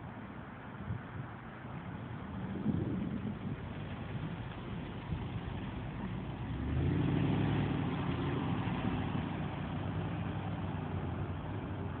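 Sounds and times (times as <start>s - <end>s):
car engine rumble: 0.0s - 12.0s
traffic noise: 0.0s - 12.0s.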